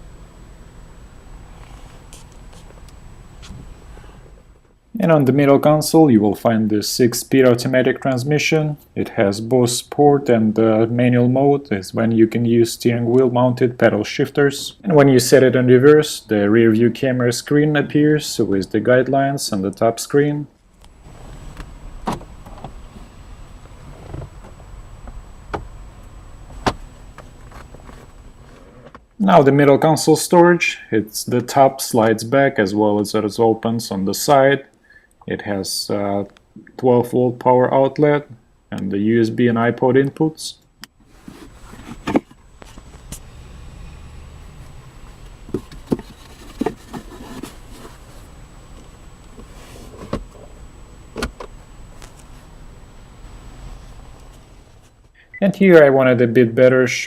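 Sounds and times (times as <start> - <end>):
low cabin hum: 0.0 - 34.6, 35.3 - 57.0
low steady rumble: 0.0 - 56.8.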